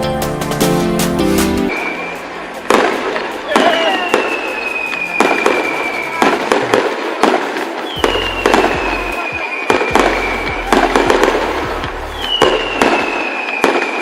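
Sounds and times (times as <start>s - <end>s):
fireworks bangs and crackling: 1.6s - 14.0s.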